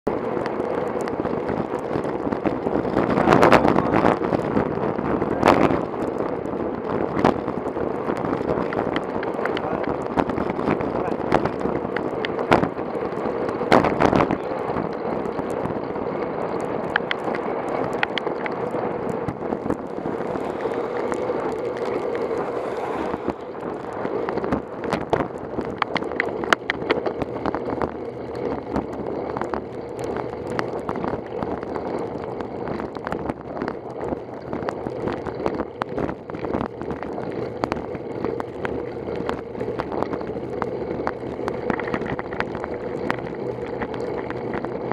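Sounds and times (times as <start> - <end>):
road and wind noise: 0.0 - 44.9
bicycle knocks and rattles: 0.1 - 44.9.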